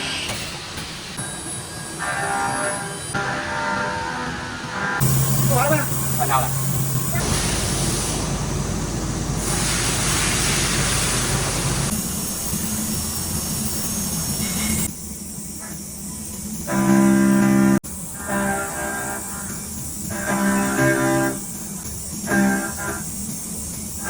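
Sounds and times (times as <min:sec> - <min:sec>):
hissing machine noise with rumble: 0:00.0 - 0:24.0.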